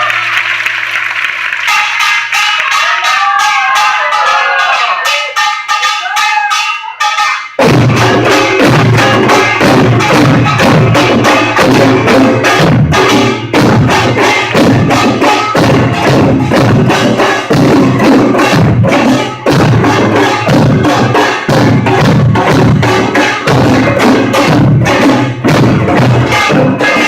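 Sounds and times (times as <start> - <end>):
gongs and drums beating: 0.0 - 27.0.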